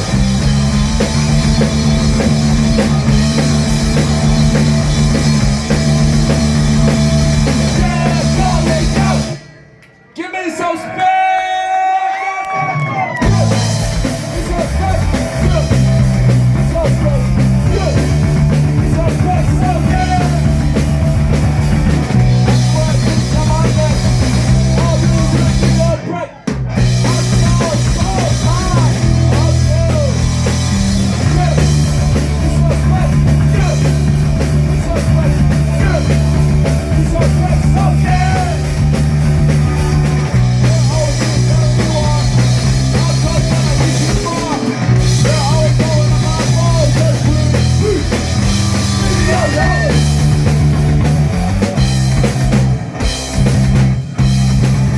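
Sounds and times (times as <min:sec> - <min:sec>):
rock band playing live: 0:00.0 - 0:10.0, 0:12.8 - 0:54.9.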